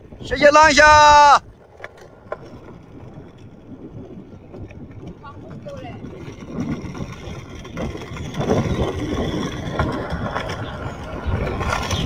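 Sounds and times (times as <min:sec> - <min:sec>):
skateboard wheels rolling on asphalt: 0:00.0 - 0:12.0.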